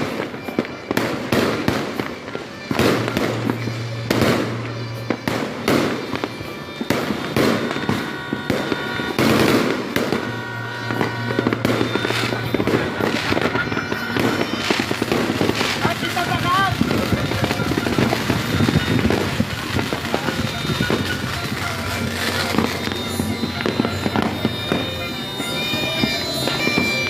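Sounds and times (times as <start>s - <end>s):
fireworks bangs and crackles: 0.0s - 27.0s
music playing: 0.0s - 27.0s.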